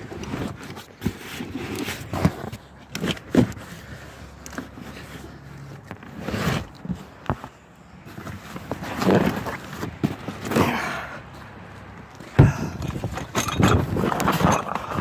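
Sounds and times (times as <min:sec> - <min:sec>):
thumps and rustles: 0:00.0 - 0:15.0.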